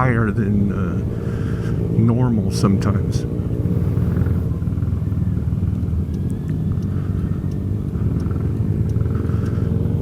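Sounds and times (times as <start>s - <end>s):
road and wind noise: 0.0s - 10.0s
scooter engine running: 0.8s - 10.0s.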